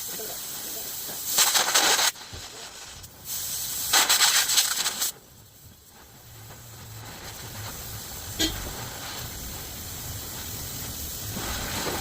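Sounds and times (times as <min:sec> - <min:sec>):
hissing spray burst: 0:00.0 - 0:12.0.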